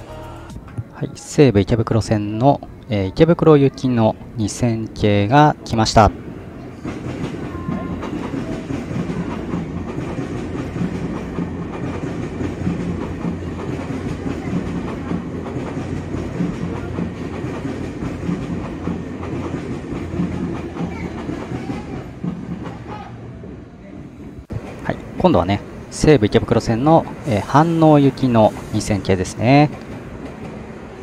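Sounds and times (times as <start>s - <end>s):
rail clicks: 0.0s - 23.7s, 24.4s - 31.0s
train wheels rumbling on rails: 4.1s - 31.0s.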